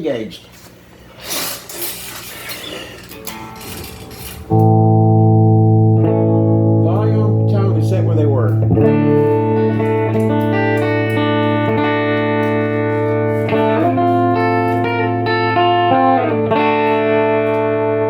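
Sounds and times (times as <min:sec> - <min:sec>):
distorted electric guitar chords: 0:03.2 - 0:18.0.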